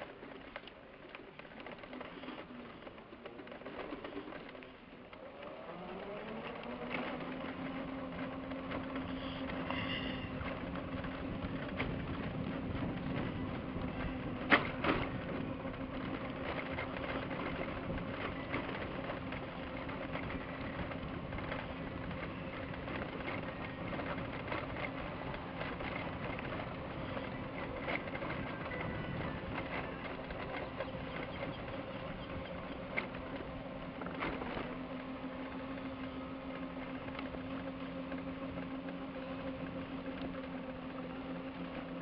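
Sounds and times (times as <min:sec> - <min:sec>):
electric scooter motor hum: 0:00.0 - 0:42.0
wheels rattling over wooden planks: 0:00.0 - 0:42.0.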